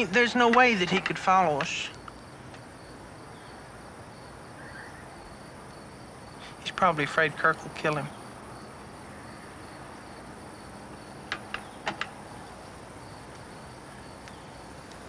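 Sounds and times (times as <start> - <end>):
crickets chirring: 0.0 - 15.0
steady hiss: 0.0 - 15.0.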